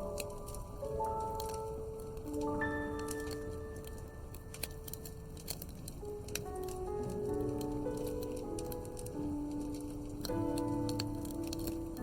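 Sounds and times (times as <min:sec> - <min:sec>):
soft background music: 0:00.0 - 0:12.0
wood fire crackling: 0:00.0 - 0:12.0.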